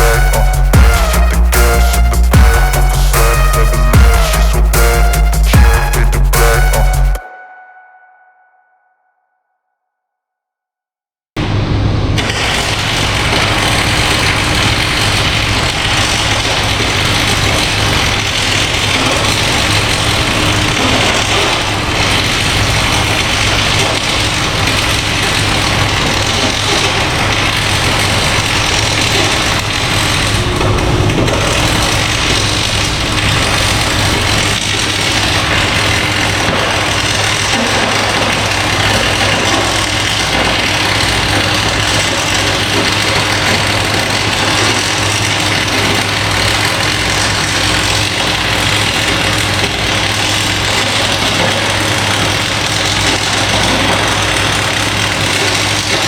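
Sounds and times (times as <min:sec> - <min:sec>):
machine humming and hissing: 0:00.0 - 0:07.2, 0:11.4 - 0:56.0.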